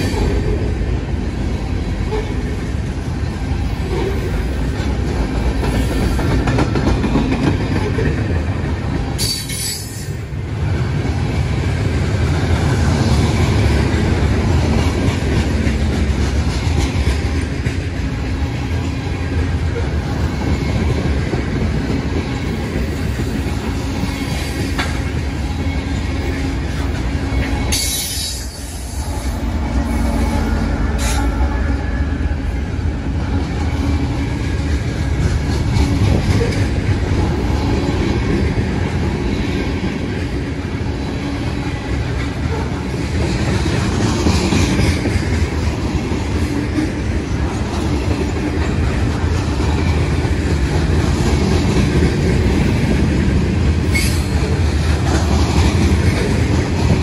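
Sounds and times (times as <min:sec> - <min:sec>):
train cars clanking: 0:00.0 - 0:57.0
train wheels rumbling on rails: 0:00.0 - 0:57.0.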